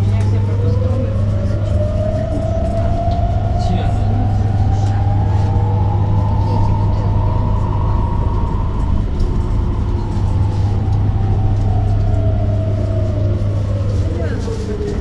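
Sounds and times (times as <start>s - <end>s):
electric bus motor whining: 0.0s - 15.0s
steady low hum: 0.0s - 15.0s.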